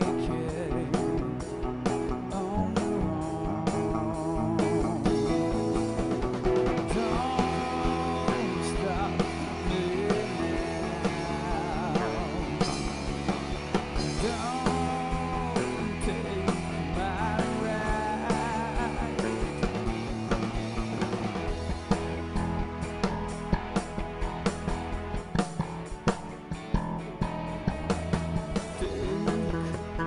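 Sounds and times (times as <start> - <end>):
live rock band playing: 0.0 - 30.0
wavering lead melody: 0.0 - 30.0
drum hits: 3.6 - 30.0.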